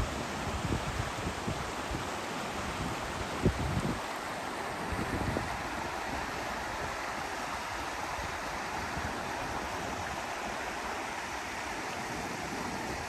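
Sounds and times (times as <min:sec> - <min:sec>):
brook running water: 0:00.0 - 0:13.0.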